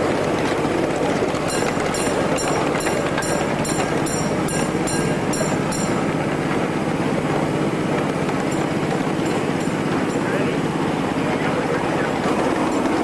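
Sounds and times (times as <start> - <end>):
high clicking of train: 0.0 - 13.0
miniature train rumbling on track: 0.0 - 13.0.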